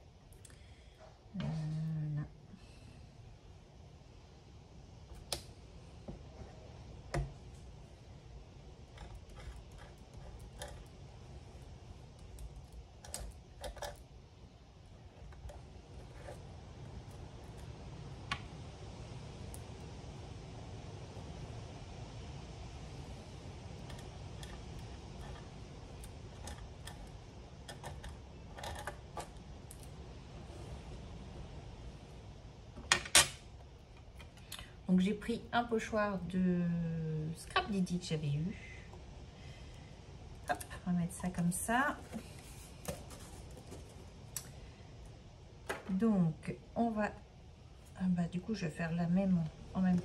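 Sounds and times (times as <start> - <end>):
low room hum: 0.0 - 50.0.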